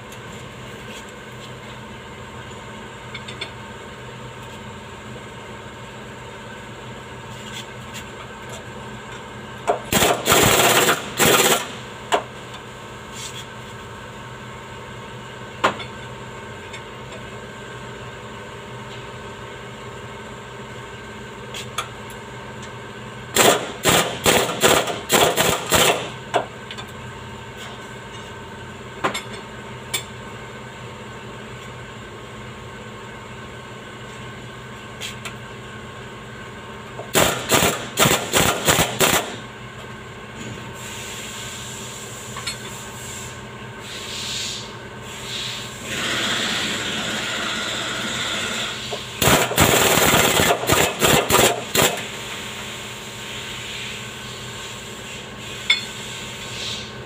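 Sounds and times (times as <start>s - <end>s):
shop hum: 0.0s - 57.0s.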